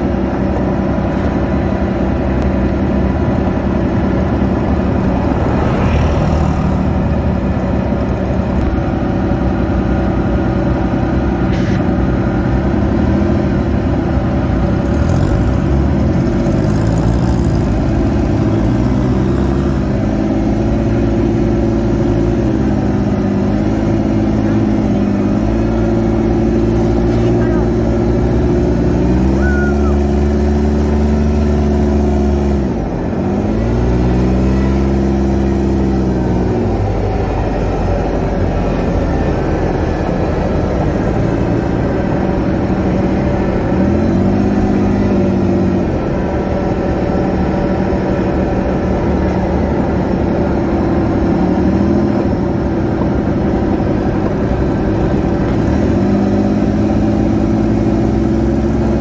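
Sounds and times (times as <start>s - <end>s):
buggy engine revving: 0.0s - 59.0s
wind and road noise: 0.0s - 59.0s.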